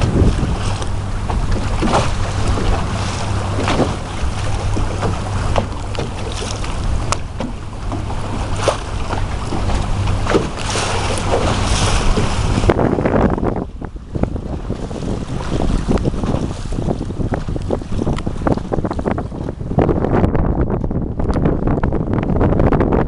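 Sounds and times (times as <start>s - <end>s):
ocean surf rumble: 0.0s - 23.0s
wind buffeting microphone: 0.0s - 23.0s.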